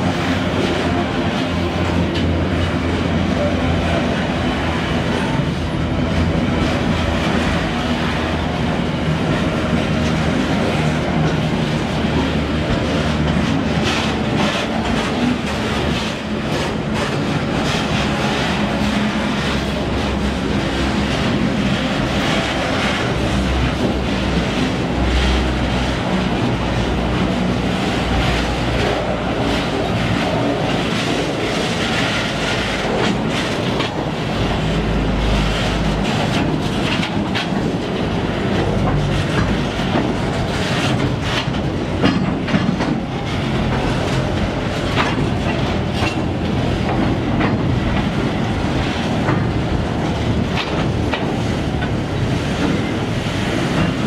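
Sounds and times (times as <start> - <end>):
train wheels rumbling on rail: 0.0 - 54.0
wheels clicking over rail joints: 0.0 - 54.0.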